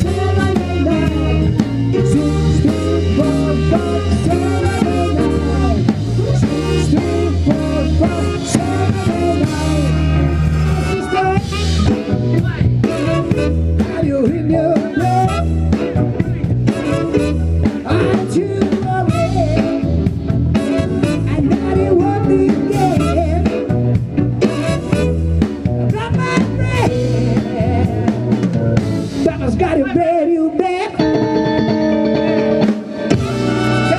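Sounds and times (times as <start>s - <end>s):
bending melodic line: 0.0s - 29.2s
drum kit playing: 0.0s - 30.1s, 30.9s - 33.9s
bass notes: 0.0s - 33.9s.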